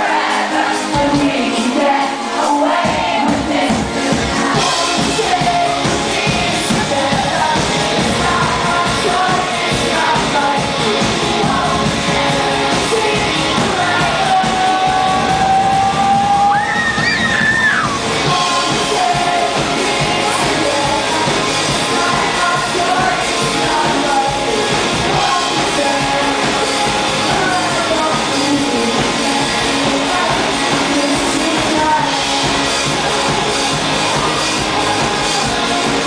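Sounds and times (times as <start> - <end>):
live pop-rock band playing: 0.0 - 36.0.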